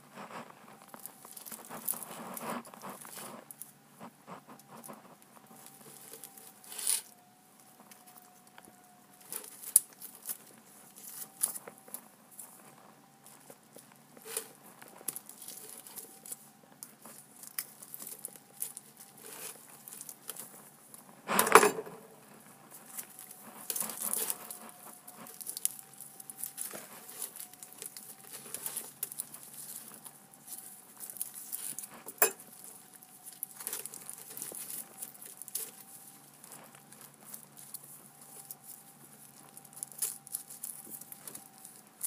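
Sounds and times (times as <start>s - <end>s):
aluminium foil crinkling: 0.0s - 42.0s.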